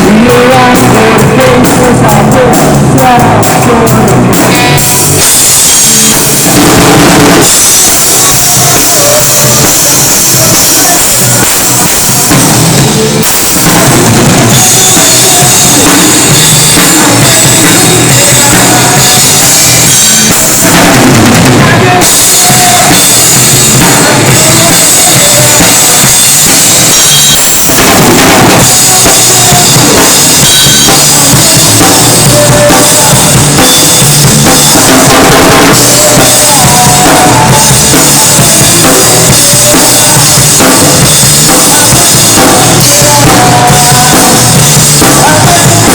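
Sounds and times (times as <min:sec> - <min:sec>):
loud rock music: 0:00.0 - 0:45.9
bass drum and snare hits: 0:04.2 - 0:45.9.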